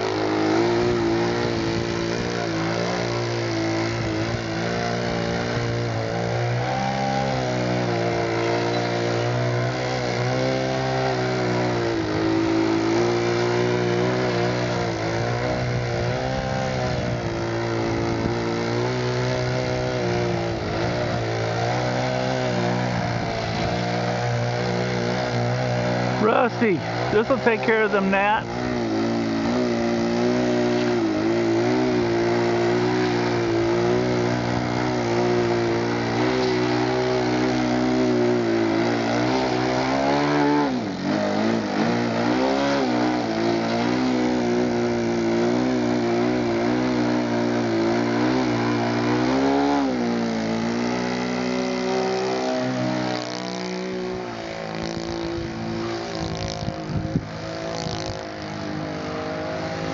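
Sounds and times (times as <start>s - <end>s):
model plane propeller drone: 0.0s - 59.9s.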